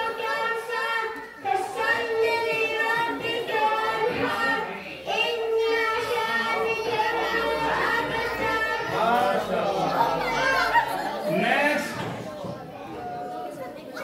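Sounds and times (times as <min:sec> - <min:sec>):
children chanting in unison: 0:00.0 - 0:14.0.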